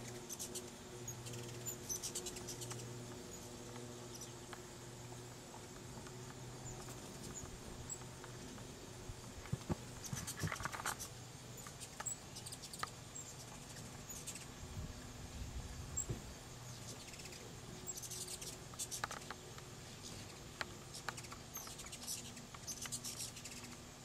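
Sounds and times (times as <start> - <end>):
hummingbirds chittering: 0.0 - 15.1, 15.7 - 24.0
steady low hum: 0.0 - 24.0.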